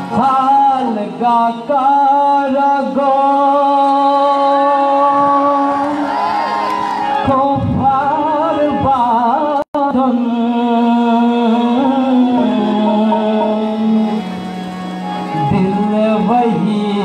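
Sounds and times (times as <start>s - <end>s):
boy singing into microphone: 0.0s - 6.2s, 7.2s - 14.5s, 15.3s - 17.0s
electronic keyboard sustained notes: 0.0s - 17.0s.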